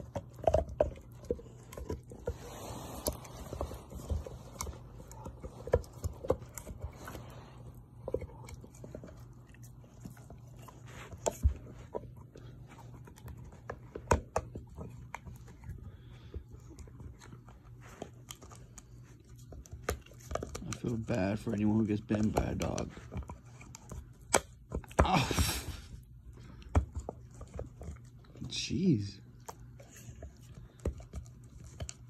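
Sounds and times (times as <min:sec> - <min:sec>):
dog chewing a hard toy: 0:00.0 - 0:28.5, 0:29.2 - 0:32.0.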